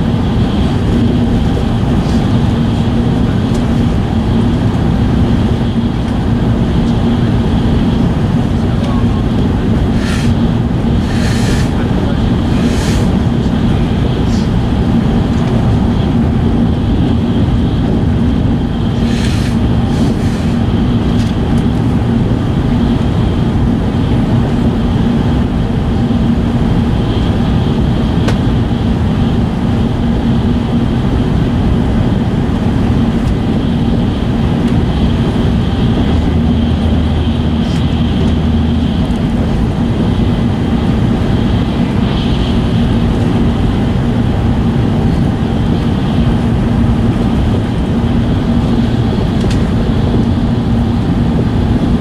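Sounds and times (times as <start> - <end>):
train cabin rumble: 0.0 - 52.0.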